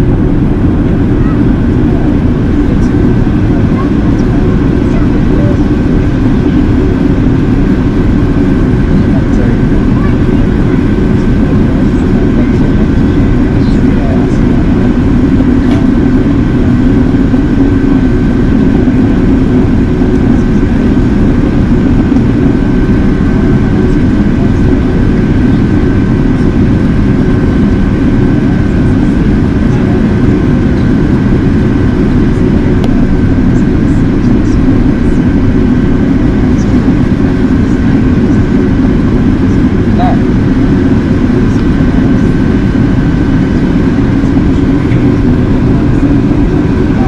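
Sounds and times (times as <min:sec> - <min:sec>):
airplane cabin drone: 0:00.0 - 0:47.0
faint high whine: 0:00.0 - 0:47.0.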